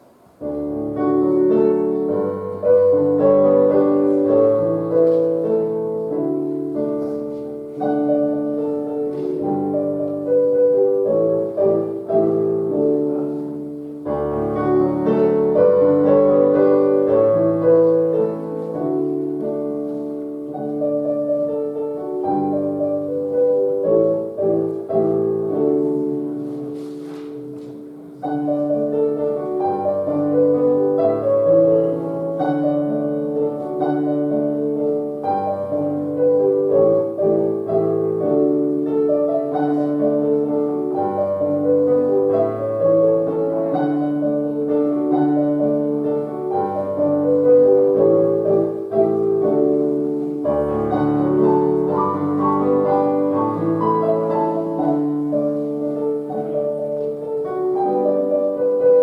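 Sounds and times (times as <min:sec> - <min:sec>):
slow gentle piano piece: 0:00.0 - 0:59.0.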